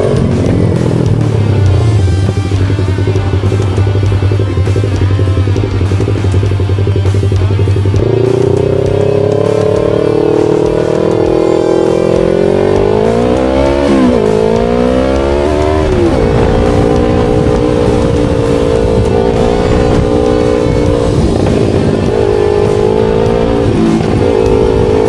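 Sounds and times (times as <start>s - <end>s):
sport bike engine accelerating: 0.0s - 25.0s.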